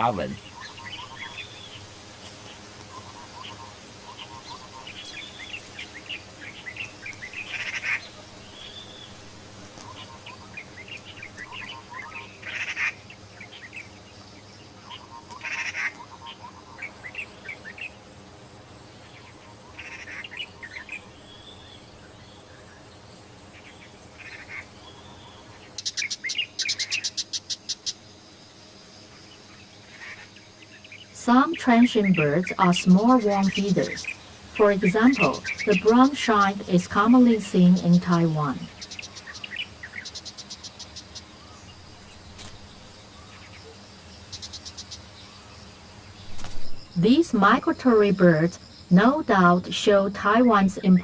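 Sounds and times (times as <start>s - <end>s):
birds chirping and calling: 0.0s - 18.1s, 19.0s - 28.3s, 29.0s - 51.0s
fast repeated sharp bird notes: 0.0s - 18.1s, 24.2s - 51.0s.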